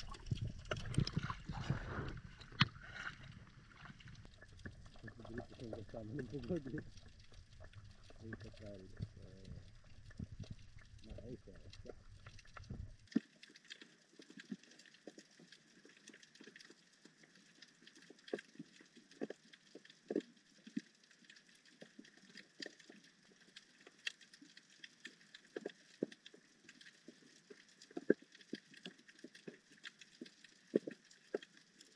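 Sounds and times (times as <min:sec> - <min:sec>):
underwater crackling clicks: 0:00.0 - 0:31.9.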